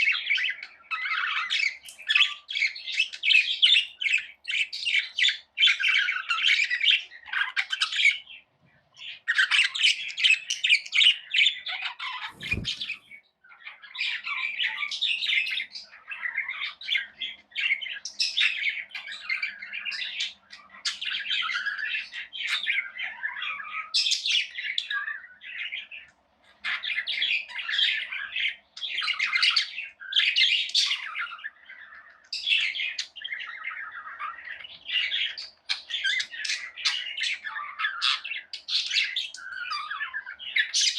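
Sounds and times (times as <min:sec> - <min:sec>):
parrots chirping and squawking: 0:00.0 - 0:08.4, 0:09.0 - 0:40.9.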